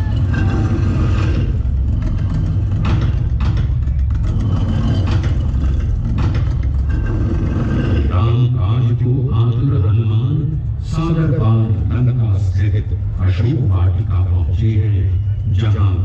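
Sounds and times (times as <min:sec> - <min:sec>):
deep rumbling drone over loudspeakers: 0:00.0 - 0:16.0.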